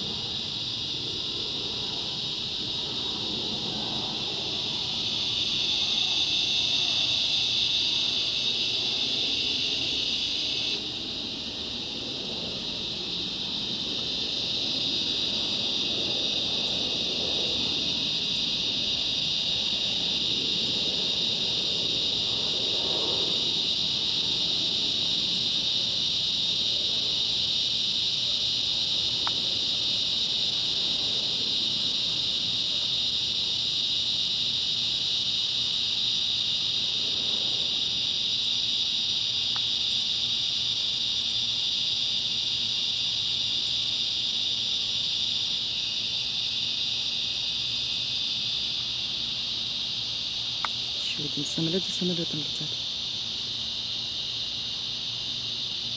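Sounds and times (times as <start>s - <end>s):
cicadas droning: 0.0s - 55.9s.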